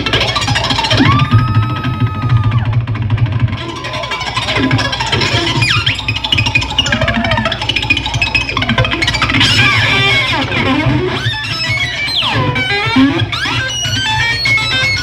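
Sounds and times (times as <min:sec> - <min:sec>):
electric guitar with effects: 0:00.0 - 0:15.0.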